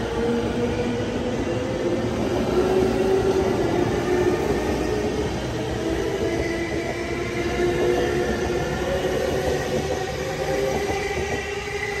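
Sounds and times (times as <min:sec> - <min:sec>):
train traction motor whine: 0:00.0 - 0:12.0
wheels rumbling on rails: 0:00.0 - 0:12.0.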